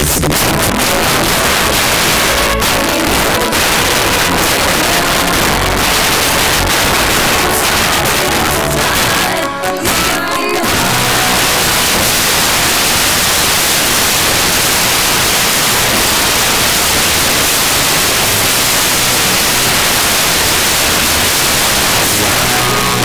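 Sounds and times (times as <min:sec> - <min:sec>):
static hiss: 0:00.0 - 0:23.0.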